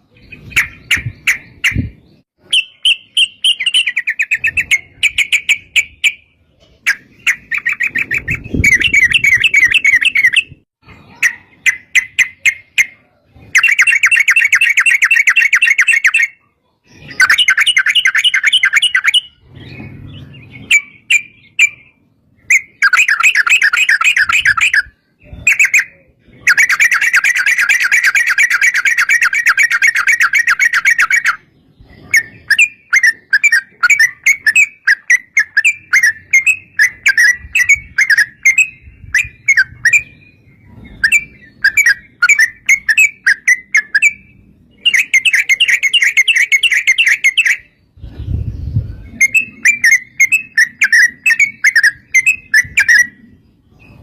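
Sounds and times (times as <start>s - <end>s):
bird chattering trills: 0.0s - 48.4s, 49.0s - 54.0s.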